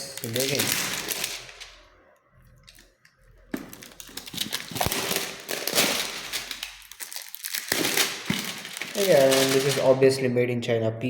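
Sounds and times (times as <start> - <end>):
packaging crinkling and rustling: 0.0 - 1.9, 2.5 - 10.0.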